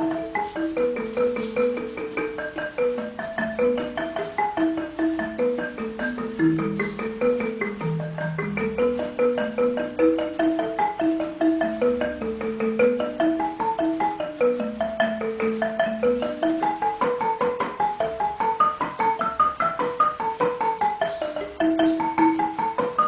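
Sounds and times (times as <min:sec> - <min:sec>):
mallet percussion melody: 0:00.0 - 0:23.0.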